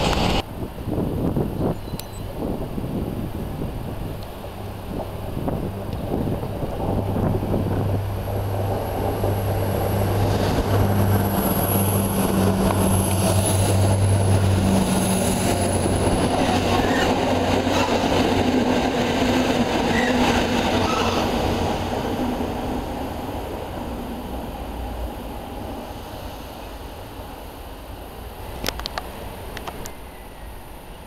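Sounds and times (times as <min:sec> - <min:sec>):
train wheel noise: 0:00.0 - 0:00.6, 0:02.0 - 0:31.0
locomotive engine drone: 0:02.6 - 0:31.0.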